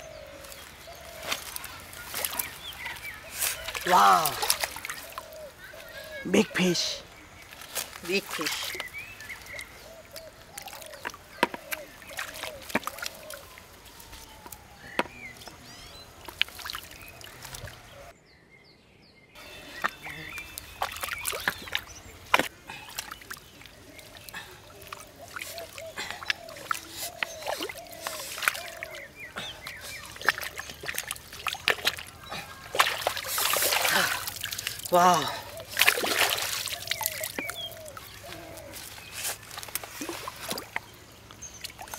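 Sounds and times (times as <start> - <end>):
hands splashing in muddy water: 0.4 - 6.2, 7.4 - 15.4, 16.2 - 17.9, 19.8 - 41.9.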